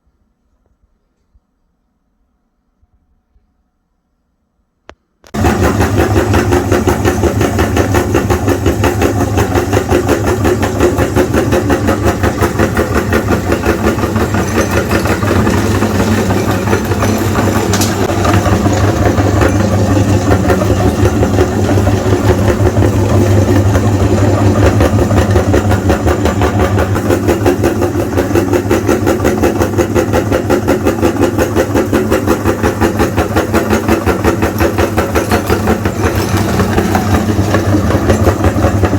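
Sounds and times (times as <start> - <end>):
electric meat grinder grinding chalk: 5.4 - 38.9.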